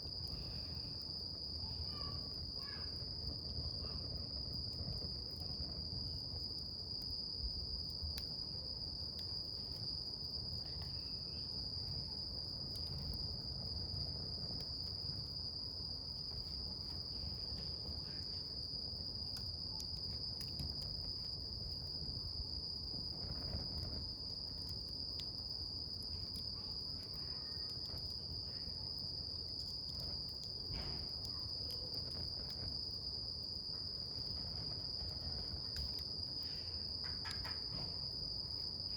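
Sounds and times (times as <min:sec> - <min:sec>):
crickets chirping: 0:00.0 - 0:38.9
campfire crackling and popping: 0:02.9 - 0:38.6.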